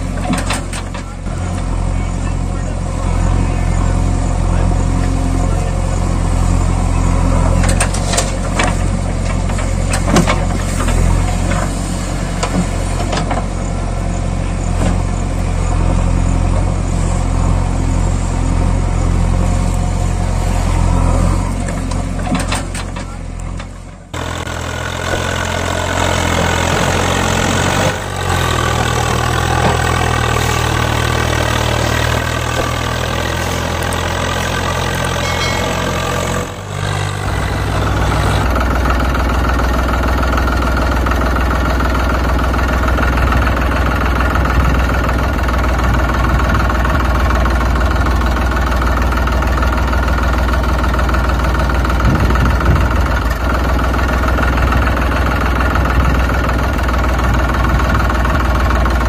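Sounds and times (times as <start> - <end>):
different engine idling: 0.0 - 59.0
engine idling: 0.0 - 59.0.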